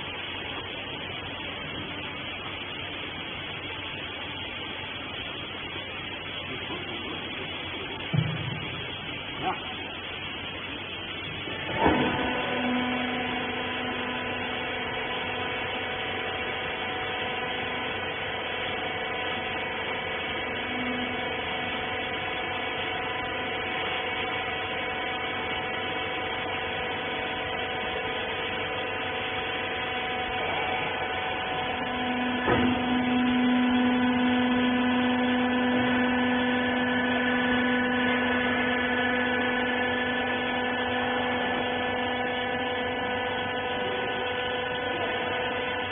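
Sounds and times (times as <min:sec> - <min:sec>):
hydraulic pump motor humming: 0:00.0 - 0:45.9.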